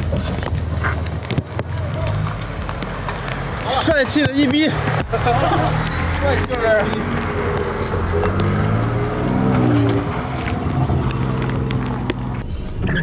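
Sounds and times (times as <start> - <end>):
pickup engine running at low speed: 0.0 - 12.6.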